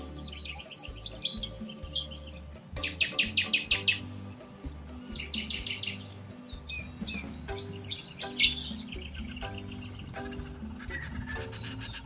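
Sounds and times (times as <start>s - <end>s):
small birds chirping: 0.0s - 12.0s
soft background music: 0.0s - 12.0s.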